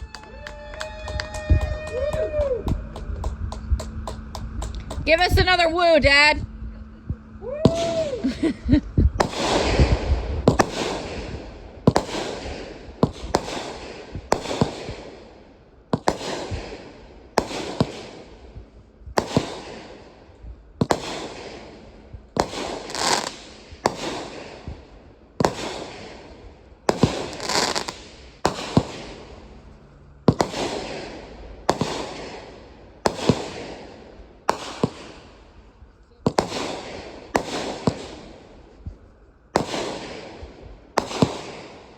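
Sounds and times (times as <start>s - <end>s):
fireworks bangs: 0.0s - 41.9s.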